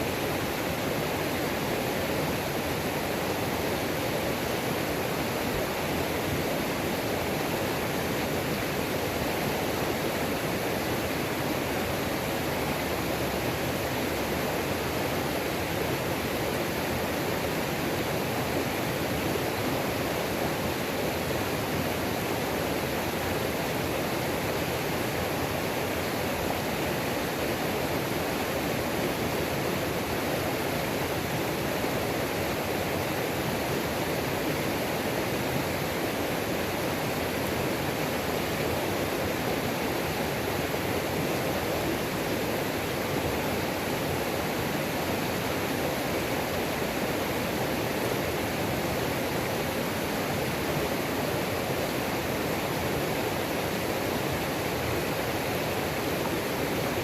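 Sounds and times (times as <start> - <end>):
waterfall pouring and splashing: 0.0 - 57.0.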